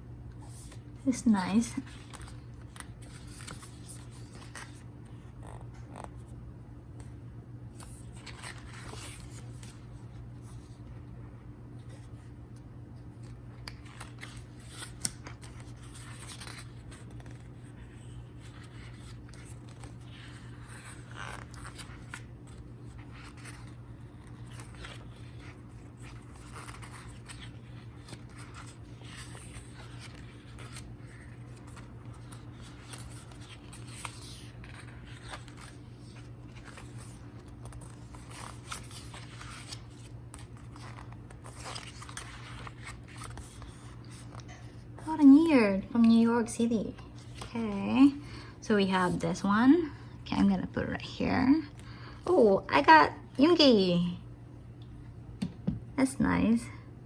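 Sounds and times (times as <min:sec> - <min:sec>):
steady low hum: 0:00.0 - 0:57.0
book pages turning: 0:00.4 - 0:06.4, 0:07.0 - 0:11.0, 0:11.7 - 0:45.4, 0:46.9 - 0:49.2.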